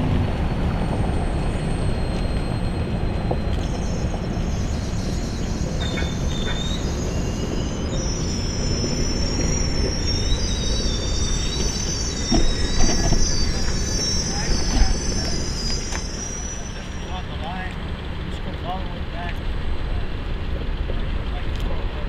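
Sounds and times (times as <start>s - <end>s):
train rumbling by: 0.0s - 22.0s
wheel squeals: 0.0s - 22.0s.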